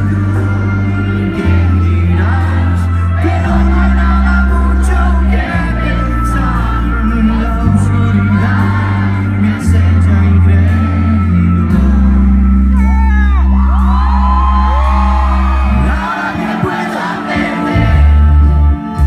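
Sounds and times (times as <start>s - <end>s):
deep bass line: 0.0s - 19.0s
rock band playing live: 0.0s - 19.0s.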